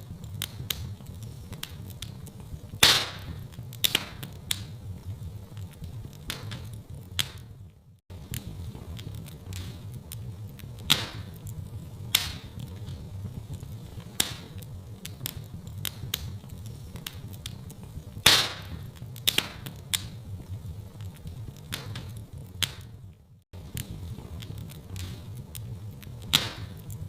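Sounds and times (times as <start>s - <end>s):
fire pops and snaps: 0.0s - 27.0s
wood fire crackling: 0.0s - 27.0s.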